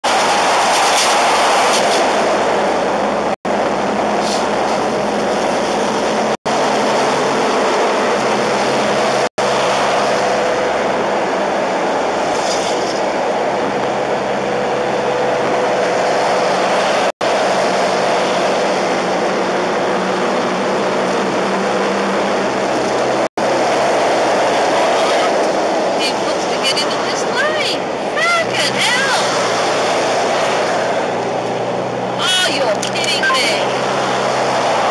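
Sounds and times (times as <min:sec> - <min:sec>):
road and tyre noise: 0:00.0 - 0:34.9.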